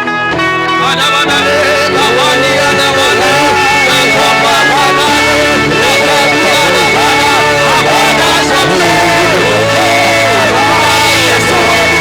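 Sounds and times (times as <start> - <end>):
church band playing praise music: 0.0 - 12.0.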